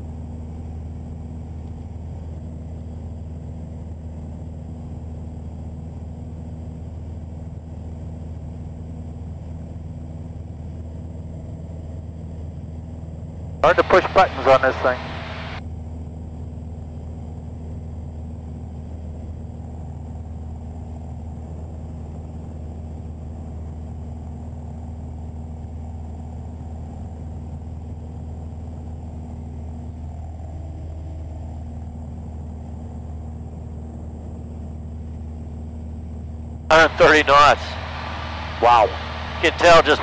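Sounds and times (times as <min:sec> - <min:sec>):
plane engine and propeller drone: 0:00.0 - 0:40.0.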